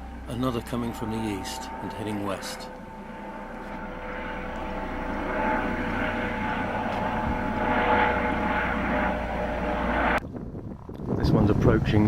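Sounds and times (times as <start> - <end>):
helicopter engine and rotor: 0.0 - 10.2.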